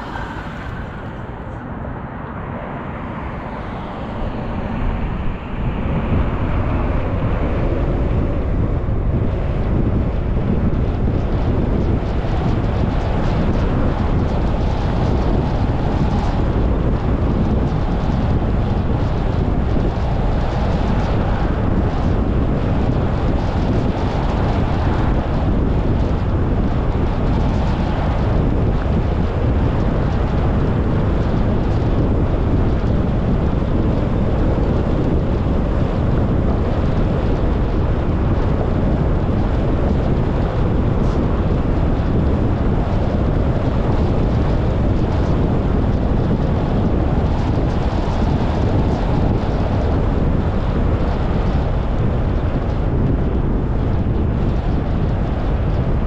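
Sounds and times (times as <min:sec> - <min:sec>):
deep rumble: 0:00.0 - 0:56.0
wind and road noise: 0:00.0 - 0:56.0
wind buffeting microphone: 0:00.0 - 0:56.0.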